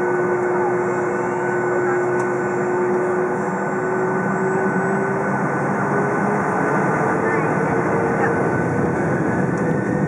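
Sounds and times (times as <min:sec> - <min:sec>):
jet engines humming in cabin: 0:00.0 - 0:10.0.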